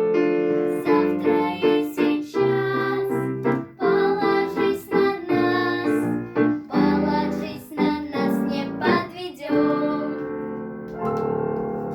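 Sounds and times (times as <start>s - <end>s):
piano or keyboard backing: 0.0s - 11.9s
children singing a duet: 0.5s - 10.4s.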